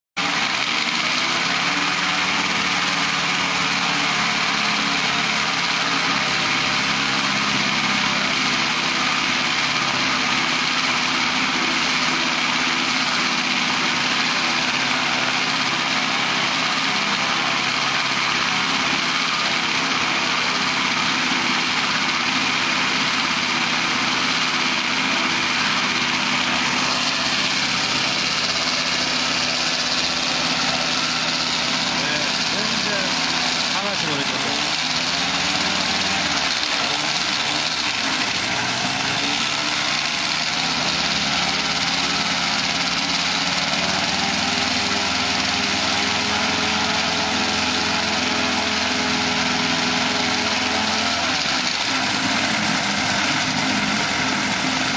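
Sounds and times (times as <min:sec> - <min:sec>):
two-stroke engine droning: 0:00.2 - 0:54.9.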